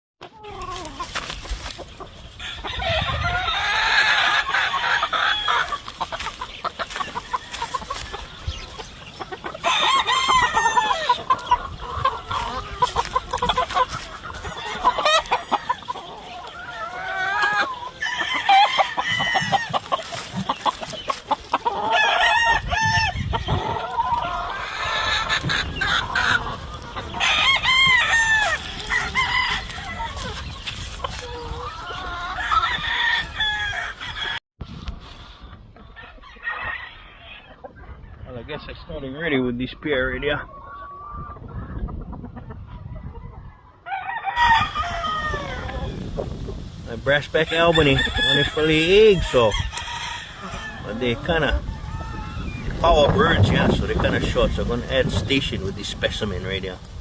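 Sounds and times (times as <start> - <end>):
roosters crowing: 0.2 - 34.4, 35.8 - 38.1, 43.0 - 56.8
chickens clucking: 0.2 - 57.0.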